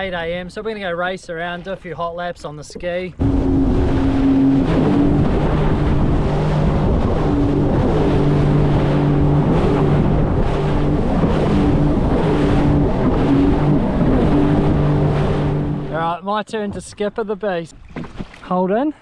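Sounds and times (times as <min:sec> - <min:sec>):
jet ski engine: 0:00.0 - 0:16.8
rush of wind and water: 0:00.0 - 0:19.0.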